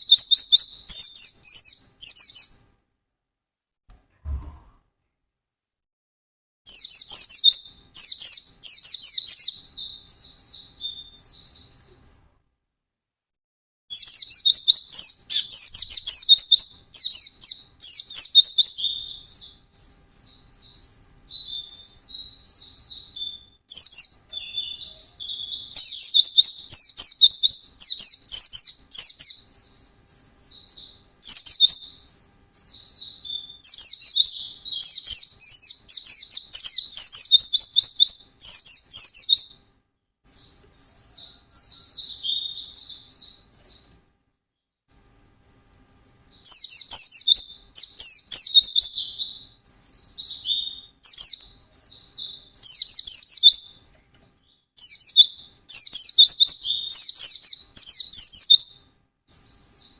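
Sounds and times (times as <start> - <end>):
bird twittering song: 0.0 - 2.7, 6.7 - 12.2, 13.9 - 59.9.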